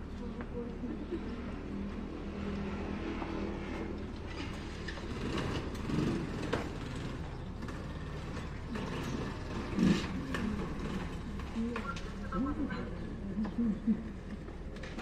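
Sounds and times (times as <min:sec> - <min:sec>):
steady low street rumble: 0:00.0 - 0:15.0.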